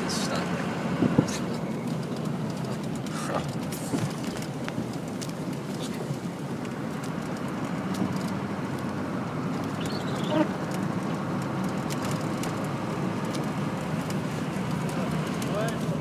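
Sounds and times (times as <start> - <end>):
engine and road noise in cab: 0.0 - 16.0.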